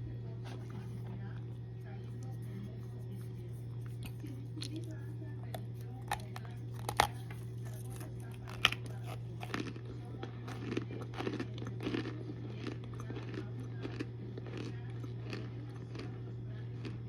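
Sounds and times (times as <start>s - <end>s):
low hum: 0.0s - 17.0s
cornstarch crunching: 0.4s - 17.0s.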